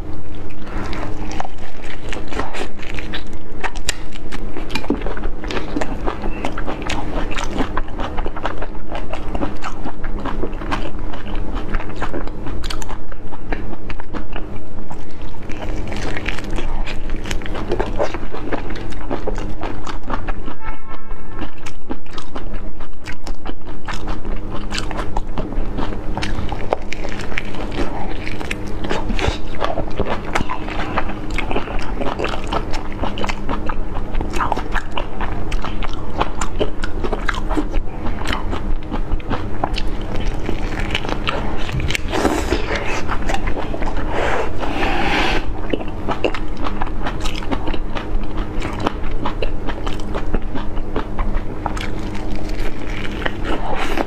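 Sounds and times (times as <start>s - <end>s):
wet chewing and biting: 0.0s - 20.6s, 21.2s - 54.0s.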